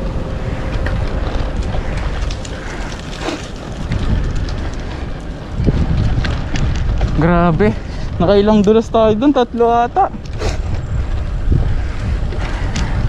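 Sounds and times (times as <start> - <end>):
bicycle clicks and knocks: 0.0 - 13.0
wind rushing over microphone: 0.0 - 13.0.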